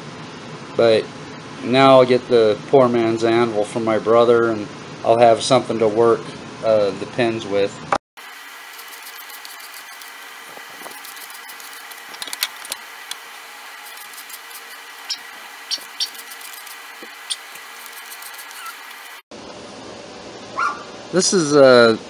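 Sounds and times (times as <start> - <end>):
steady hum and hiss: 0.0 - 22.0.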